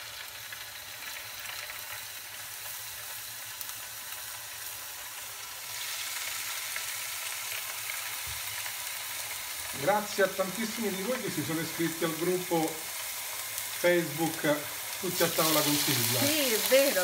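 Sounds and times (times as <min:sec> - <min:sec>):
meat sizzling in oil: 0:00.0 - 0:17.0.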